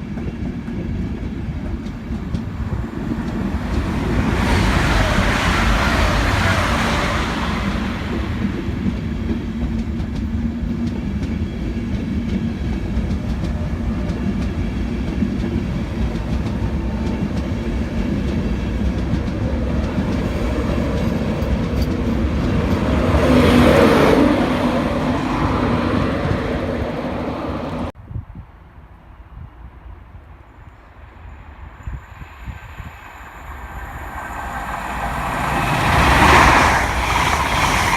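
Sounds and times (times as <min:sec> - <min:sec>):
train wheels rumbling over rails: 0:00.0 - 0:28.0, 0:31.8 - 0:37.9.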